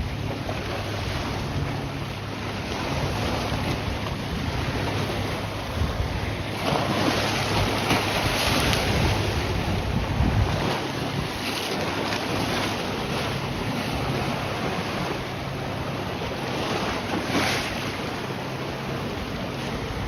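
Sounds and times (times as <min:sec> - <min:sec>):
waves washing on rocky shore: 0:00.0 - 0:20.0
wind buffeting microphone: 0:00.0 - 0:20.0.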